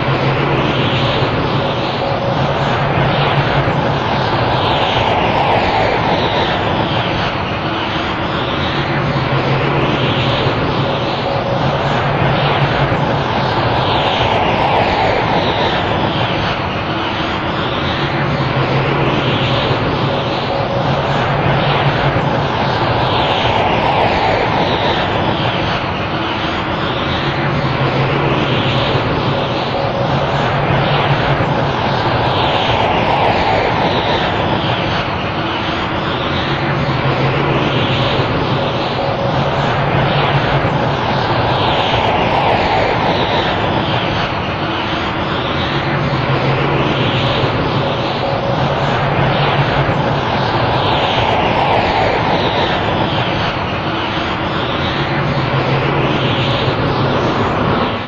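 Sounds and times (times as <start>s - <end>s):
rushing energy noise: 0.0s - 58.0s.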